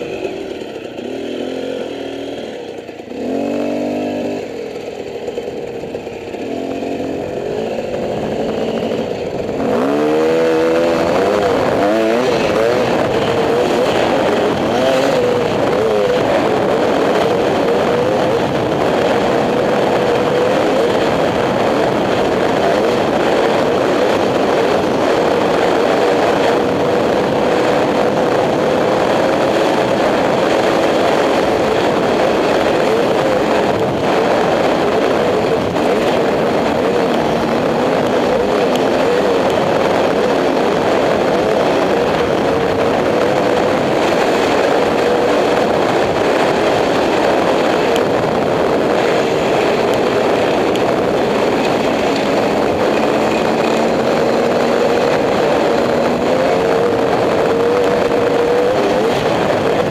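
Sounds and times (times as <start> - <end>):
dirt bike engine running: 0.0 - 59.9
wind and road noise: 0.0 - 59.9.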